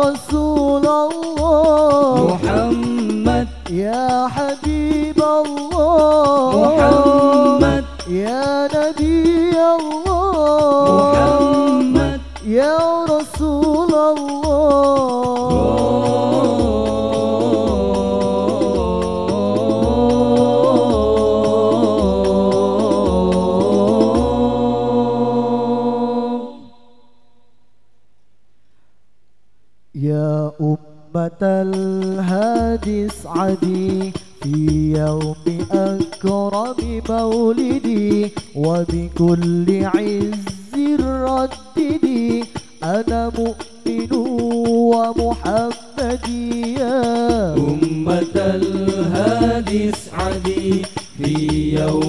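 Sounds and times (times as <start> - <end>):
men singing together: 0.0 - 27.0, 31.4 - 52.0.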